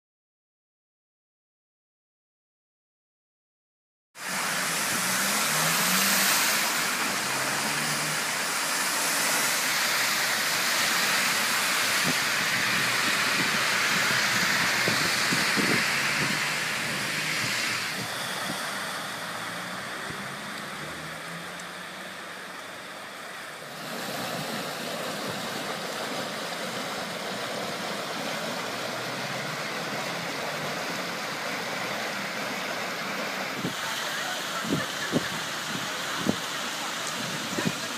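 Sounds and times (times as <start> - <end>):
car tyres splashing through water: 4.2 - 37.9
rush of flowing floodwater: 4.2 - 37.9.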